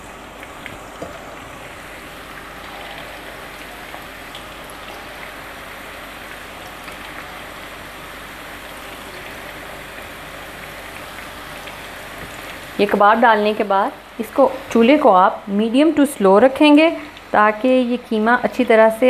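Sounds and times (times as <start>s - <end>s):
meat frying in hot oil: 0.0s - 19.0s.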